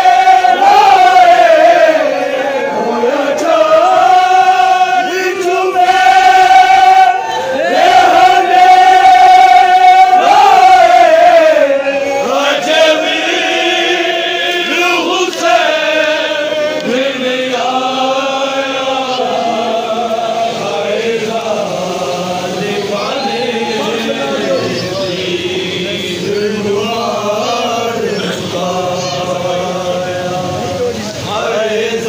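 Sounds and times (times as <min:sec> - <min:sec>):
men chanting a lament: 0:00.0 - 0:32.0.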